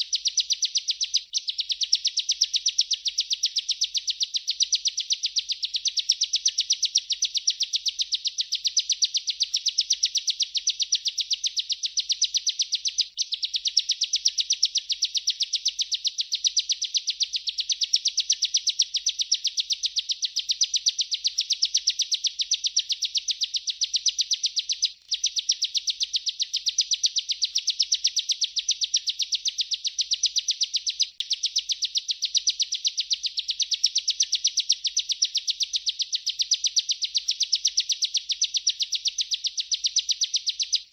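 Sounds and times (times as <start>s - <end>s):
bird singing rapid trill: 0.0s - 40.9s.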